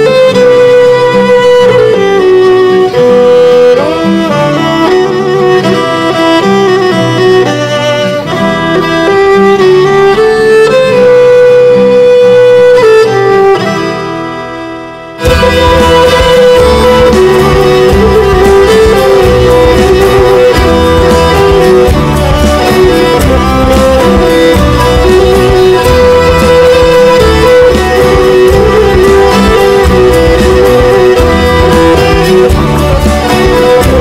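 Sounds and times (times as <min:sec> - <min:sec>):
low strings and guitar: 0:00.0 - 0:34.0
violin melody: 0:00.0 - 0:34.0.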